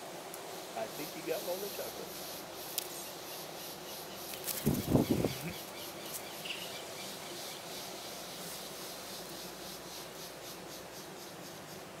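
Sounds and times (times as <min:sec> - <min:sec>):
insects chirping: 0:00.2 - 0:12.0.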